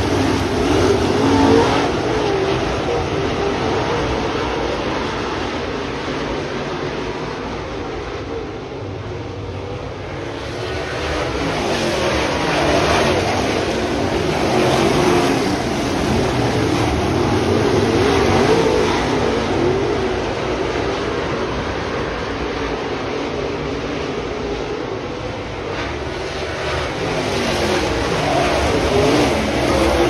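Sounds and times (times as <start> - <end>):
race car engines at speed: 0.0 - 30.0.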